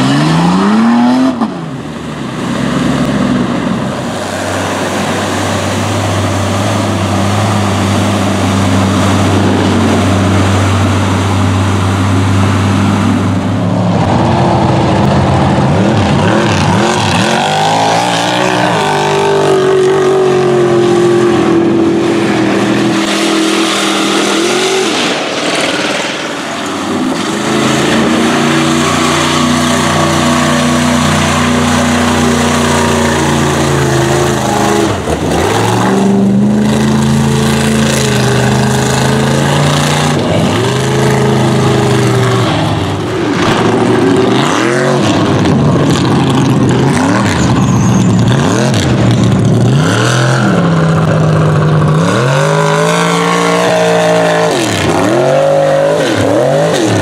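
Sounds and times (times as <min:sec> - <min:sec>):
mud and water splashing: 0:00.0 - 0:57.0
truck engines revving: 0:00.0 - 0:57.0.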